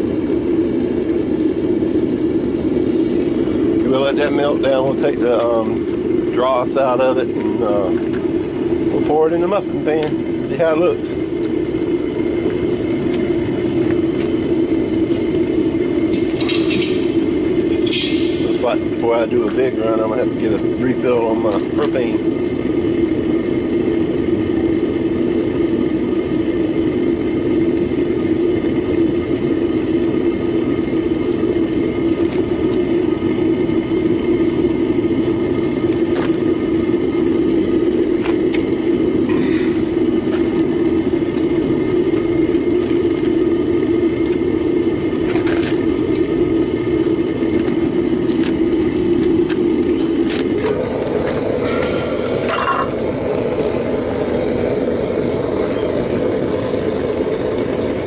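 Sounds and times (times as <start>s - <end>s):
gas burner roaring: 0.0s - 58.0s.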